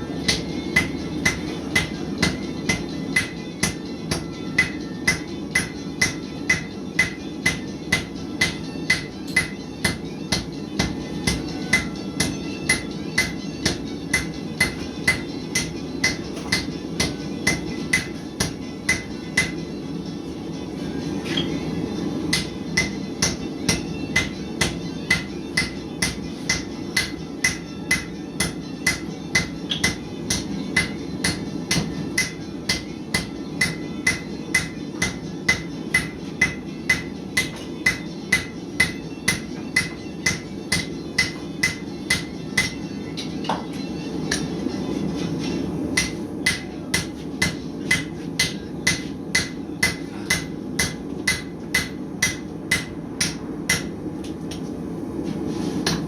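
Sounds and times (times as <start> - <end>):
hammer striking steel on anvil: 0.2 - 19.7, 22.3 - 43.7, 46.0 - 54.0.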